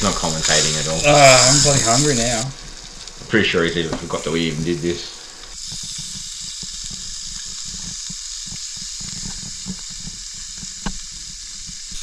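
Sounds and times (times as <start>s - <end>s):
fish sizzling on grill plate: 0.0s - 12.0s.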